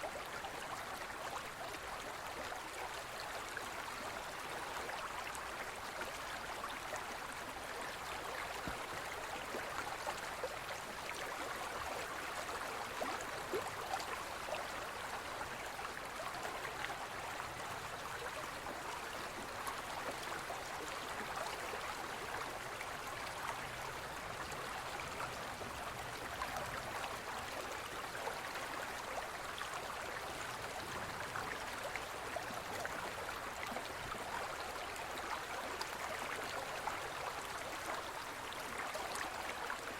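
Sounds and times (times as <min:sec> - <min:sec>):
stream babbling and splashing: 0:00.0 - 0:39.9.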